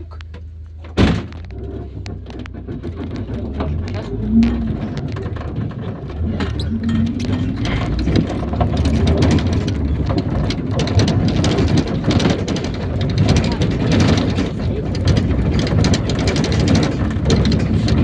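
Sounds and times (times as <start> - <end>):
body and fittings rattling: 0.0 - 18.0
minibus engine rumble: 0.0 - 18.0.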